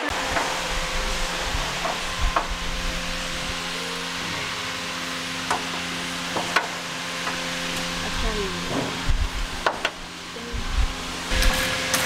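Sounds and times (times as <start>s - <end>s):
steady hiss and hum: 0.0s - 12.0s.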